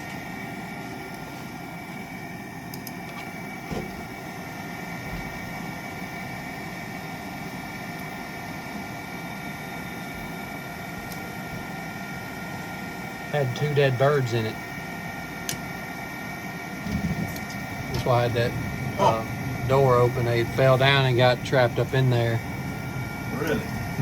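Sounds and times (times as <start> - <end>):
furnace hum: 0.0 - 24.0
high whine: 0.0 - 24.0.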